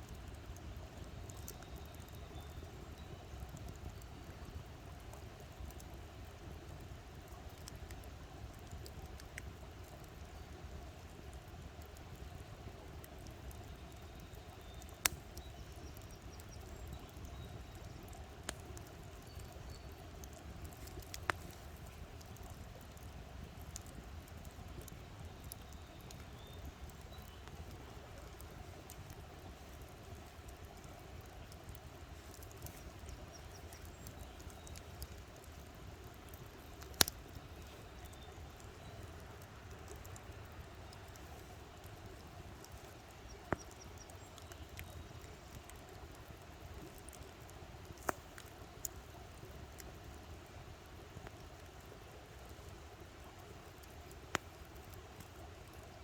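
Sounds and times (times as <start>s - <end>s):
burning wood popping: 0.0s - 56.0s
campfire burning: 0.0s - 56.0s.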